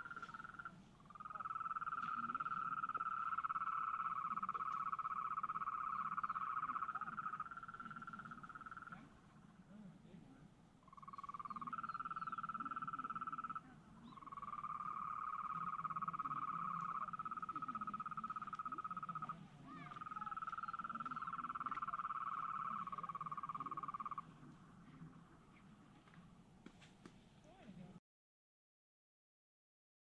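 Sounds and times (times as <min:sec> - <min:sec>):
frogs trilling: 0:00.0 - 0:09.6, 0:10.8 - 0:25.7.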